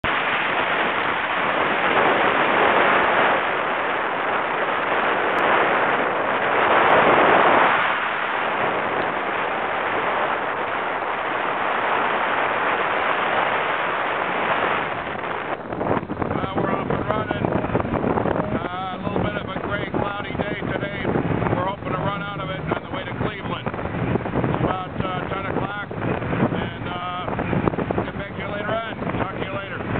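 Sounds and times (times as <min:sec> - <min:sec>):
wind rushing over microphone: 0:00.0 - 0:29.9.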